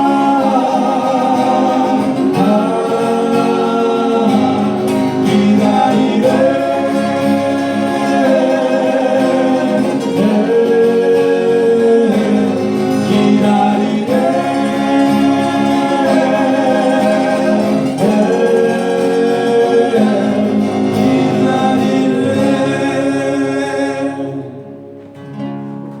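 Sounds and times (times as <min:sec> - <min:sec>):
people singing: 0:00.0 - 0:25.0
acoustic guitar: 0:00.0 - 0:26.0.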